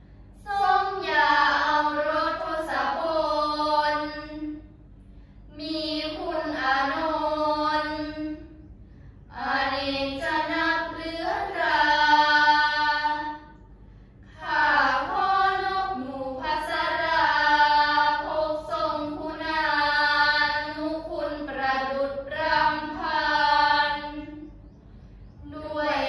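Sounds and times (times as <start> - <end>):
girls chanting prayers in unison: 0.0 - 26.0.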